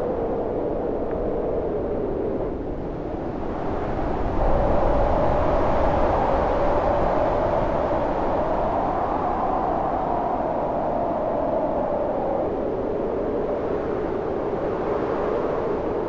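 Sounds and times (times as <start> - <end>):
howling snowstorm wind: 0.0 - 16.0.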